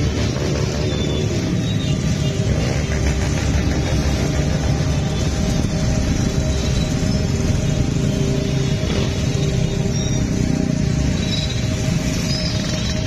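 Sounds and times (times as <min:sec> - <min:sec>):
traffic engines droning: 0:00.0 - 0:13.0.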